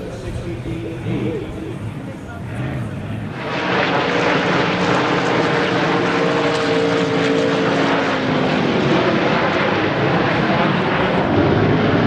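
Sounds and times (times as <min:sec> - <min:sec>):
racing boat engine running loud: 0:00.0 - 0:12.0.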